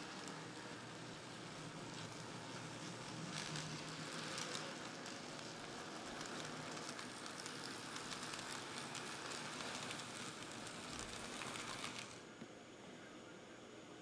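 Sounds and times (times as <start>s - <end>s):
model train wheels rattling: 0.0s - 12.2s.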